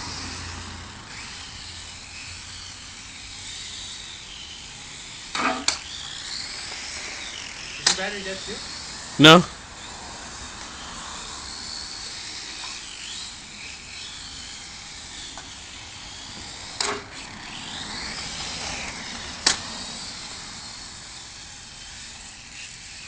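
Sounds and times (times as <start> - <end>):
toy car electric motor whine: 0.0 - 23.0.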